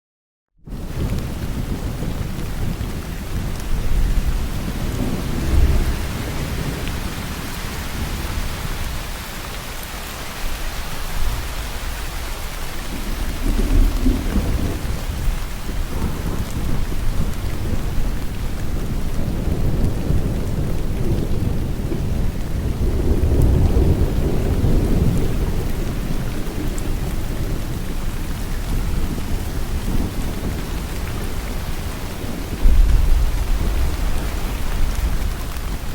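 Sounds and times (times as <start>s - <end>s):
rolling thunder: 0.7s - 9.6s, 10.4s - 35.9s
heavy rain falling: 0.7s - 35.9s.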